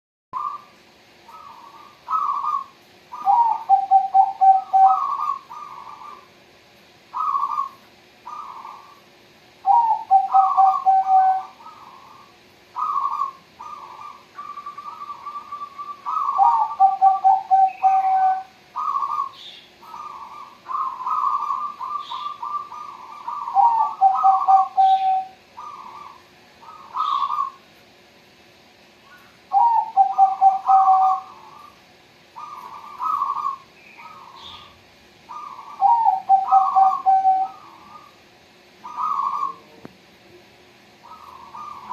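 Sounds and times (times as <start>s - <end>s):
doves cooing: 0.4s - 6.5s, 7.1s - 27.7s, 29.0s - 39.9s, 41.0s - 41.9s.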